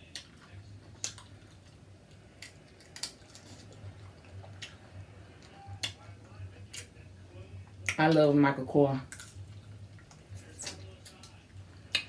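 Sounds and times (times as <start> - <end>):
eating clicks and smacks: 0.0 - 7.0, 7.7 - 8.3, 9.1 - 12.0
low steady hum: 0.0 - 12.0.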